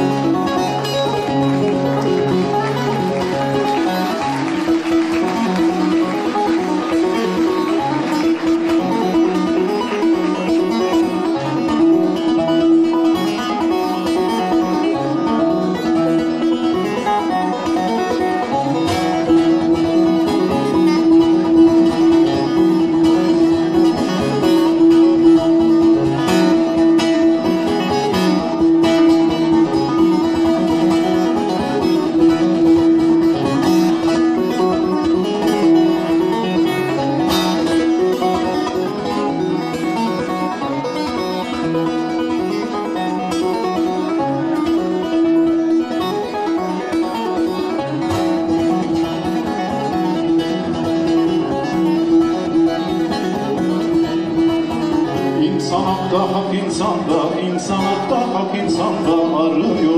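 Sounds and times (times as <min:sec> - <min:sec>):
long-necked lute finger-plucked: 0:00.0 - 0:59.9.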